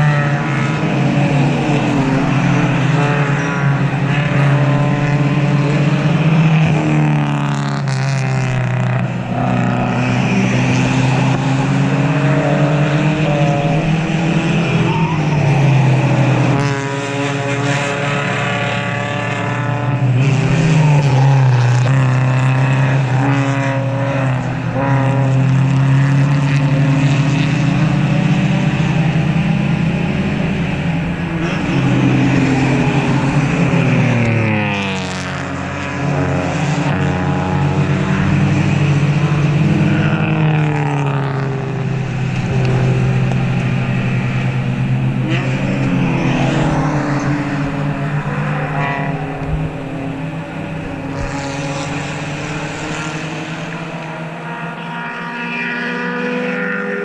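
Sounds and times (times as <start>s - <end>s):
race car engines passing: 0.0s - 57.0s.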